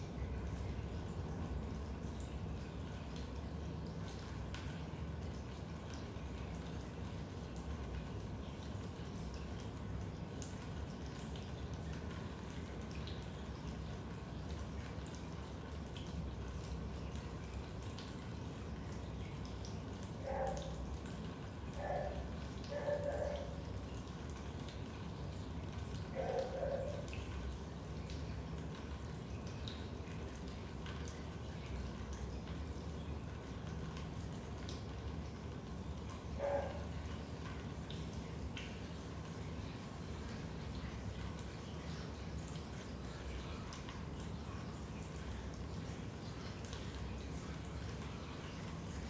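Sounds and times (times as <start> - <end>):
low background hiss: 0.0 - 49.0
water drips: 0.0 - 49.0.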